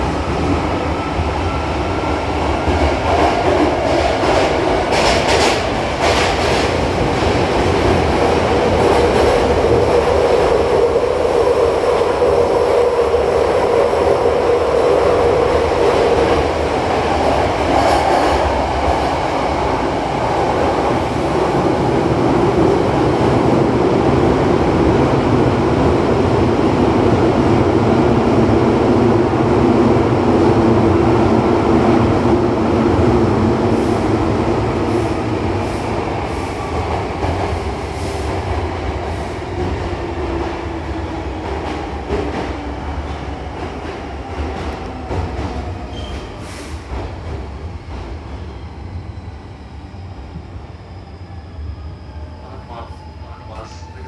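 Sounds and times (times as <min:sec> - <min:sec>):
train rumble in tunnel: 0:00.0 - 0:54.0.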